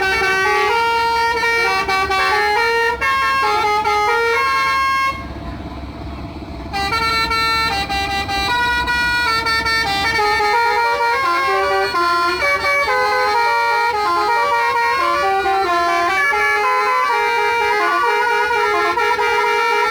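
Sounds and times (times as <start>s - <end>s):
multi-tone air horn tune: 0.0s - 5.3s, 6.7s - 19.9s.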